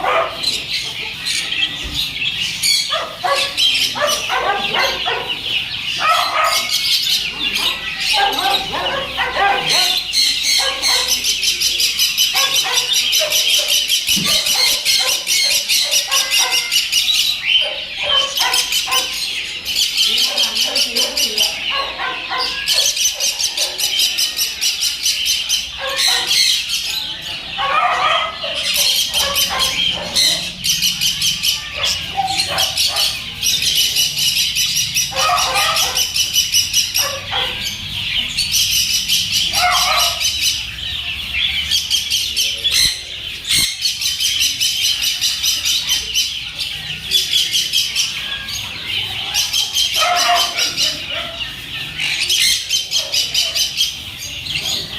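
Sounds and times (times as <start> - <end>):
caged birds chirping: 0.0 - 54.9
harsh bird calls: 0.0 - 54.9.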